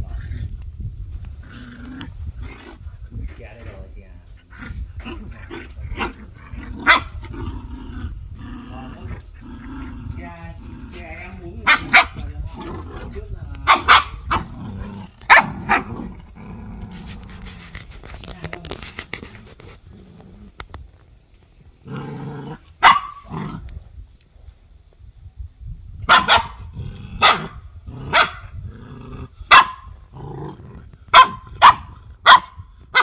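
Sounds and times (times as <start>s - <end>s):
puppies growling: 1.2s - 3.2s, 4.3s - 20.9s, 21.6s - 23.8s, 26.3s - 32.2s.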